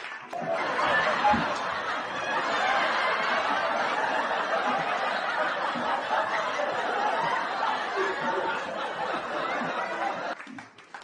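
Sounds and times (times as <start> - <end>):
crowd laughing and chattering: 0.3 - 10.4.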